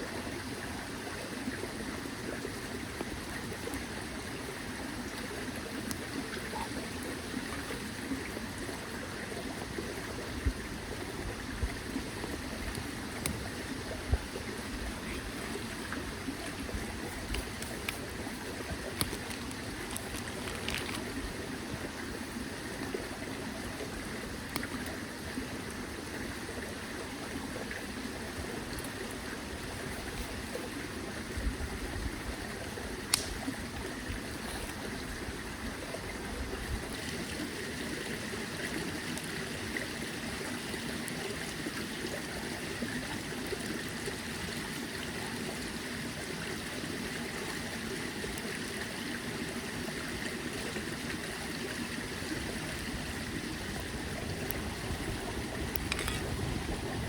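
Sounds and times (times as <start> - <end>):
stream trickling: 0.0 - 57.0.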